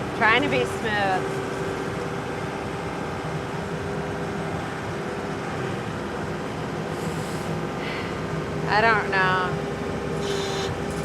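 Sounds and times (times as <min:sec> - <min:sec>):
constant whine: 0:00.0 - 0:11.0
diesel loader engine running: 0:00.0 - 0:11.0.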